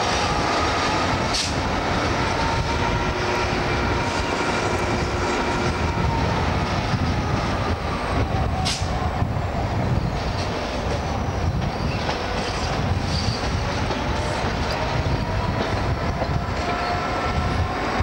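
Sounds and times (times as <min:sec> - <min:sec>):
diesel locomotive engine running: 0:00.0 - 0:18.0
wheels rumbling on track: 0:00.0 - 0:18.0.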